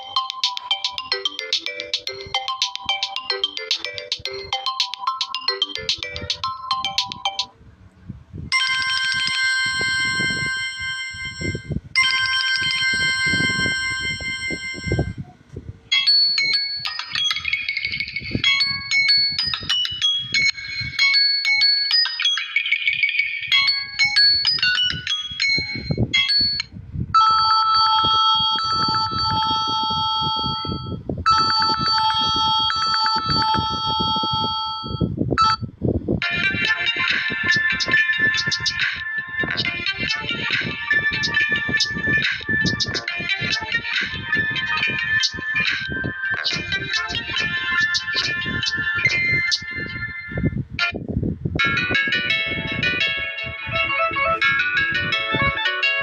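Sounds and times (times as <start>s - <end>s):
chiming ringtone pattern: 0.0s - 7.6s, 8.5s - 15.3s, 15.9s - 56.0s
melodic ringtone tune: 0.0s - 7.6s, 8.5s - 56.0s.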